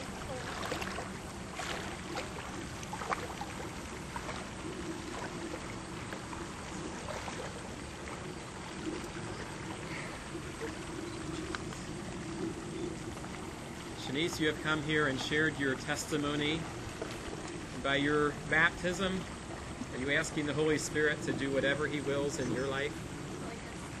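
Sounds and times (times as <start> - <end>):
small splashes: 0.0 - 24.0
steady outdoor hiss: 0.0 - 24.0
water sloshing around legs: 0.0 - 24.0.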